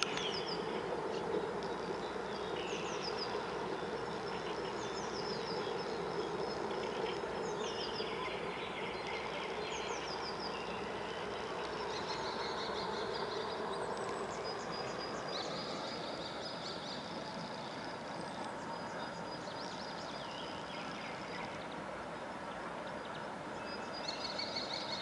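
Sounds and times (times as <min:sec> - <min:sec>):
songbirds singing: 0:00.0 - 0:25.0
steady low hum: 0:00.0 - 0:25.0.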